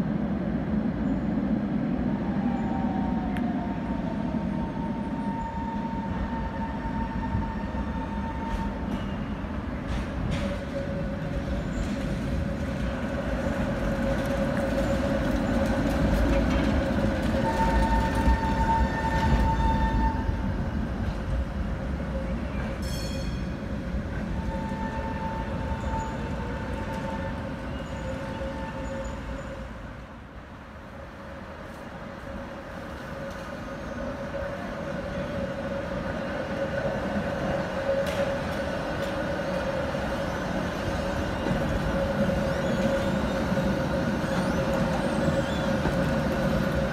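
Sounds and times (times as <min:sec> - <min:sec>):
tram wheels rumbling: 0:00.0 - 0:46.9.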